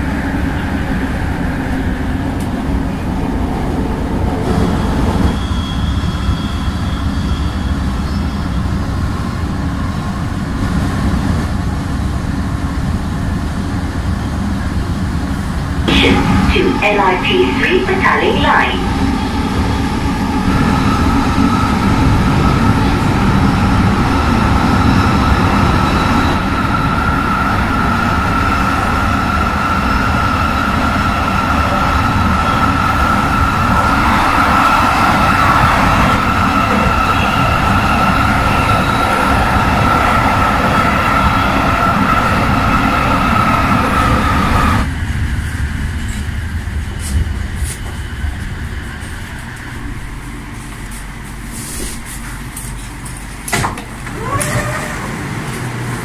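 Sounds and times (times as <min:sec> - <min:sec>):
train high whine: 0:00.0 - 0:56.0
train rumble: 0:00.0 - 0:56.0.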